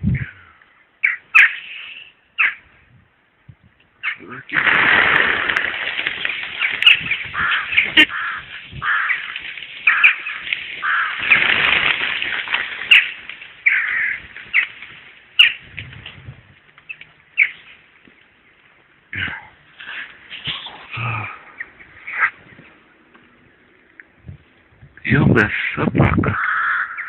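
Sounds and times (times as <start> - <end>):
birds calling: 0.0 - 2.8, 3.8 - 15.8, 16.6 - 24.7, 25.6 - 27.0.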